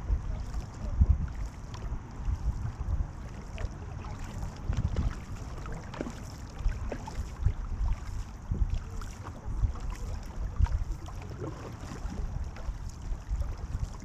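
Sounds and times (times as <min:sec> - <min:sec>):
paddles splashing in water: 0:00.0 - 0:14.0
wind rumble on microphone: 0:00.0 - 0:14.0.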